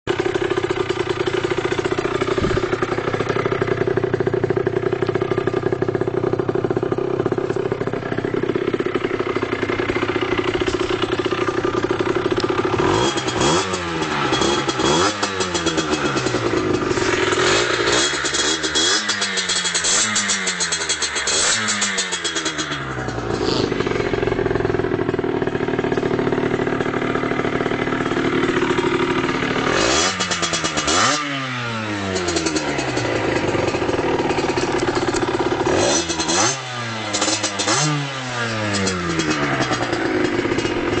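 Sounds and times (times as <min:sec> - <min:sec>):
two-stroke engine idling and revving: 0:00.1 - 0:41.0.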